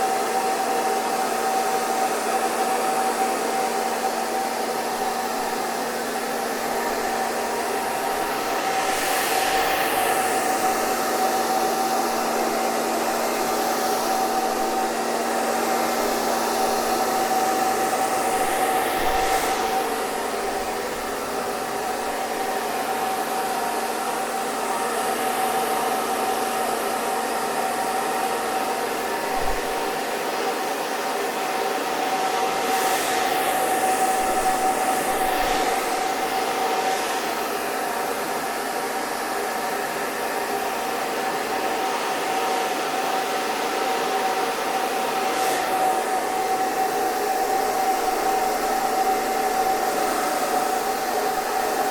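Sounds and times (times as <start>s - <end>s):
hair dryer running: 0.0s - 51.9s.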